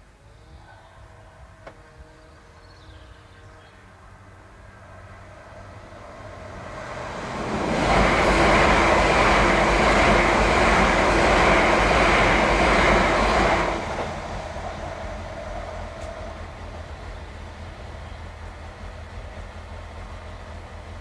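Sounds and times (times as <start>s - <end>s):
train rushing past: 0.9s - 21.0s.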